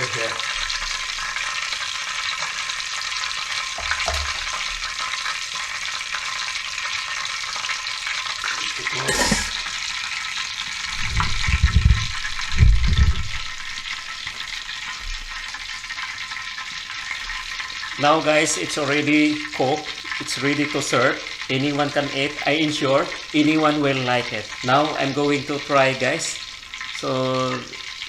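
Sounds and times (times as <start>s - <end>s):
hot oil sizzling: 0.0s - 28.0s.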